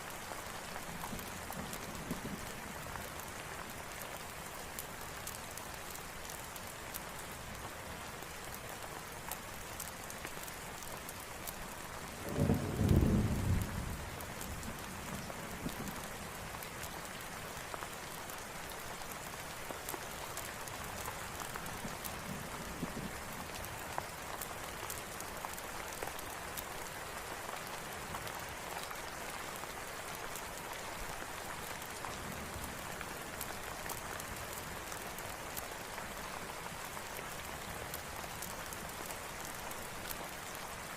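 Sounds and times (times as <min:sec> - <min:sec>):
campfire crackles: 0:00.0 - 0:40.9.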